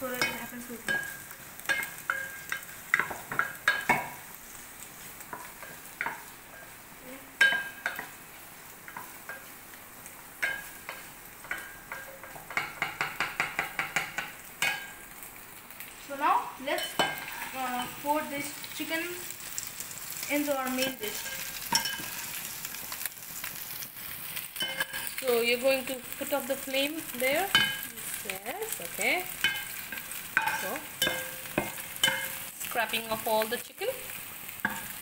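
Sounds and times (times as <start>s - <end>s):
faint sizzle of frying: 0.0s - 35.0s.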